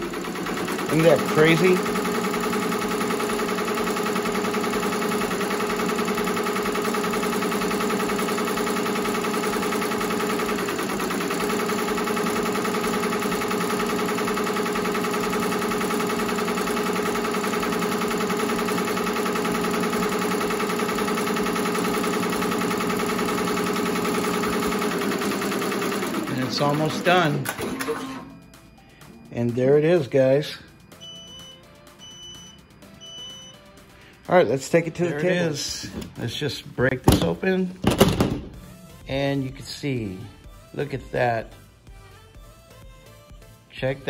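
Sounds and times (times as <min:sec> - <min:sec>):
machine hum: 0:00.0 - 0:40.8.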